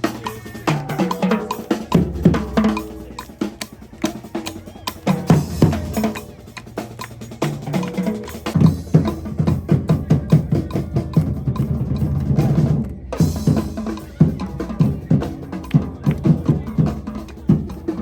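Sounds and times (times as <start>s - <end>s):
bass and snare drums playing: 0.0s - 18.0s.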